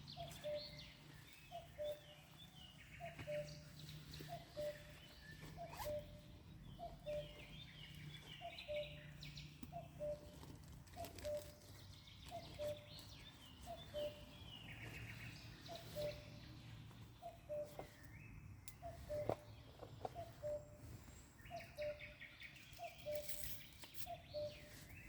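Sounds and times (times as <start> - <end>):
bird twittering: 0.0 - 25.0.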